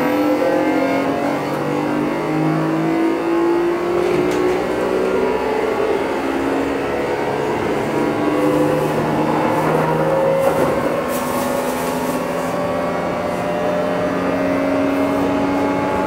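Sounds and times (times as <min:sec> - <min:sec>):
running train noise: 0:00.0 - 0:16.0
train motors whining: 0:00.0 - 0:16.0.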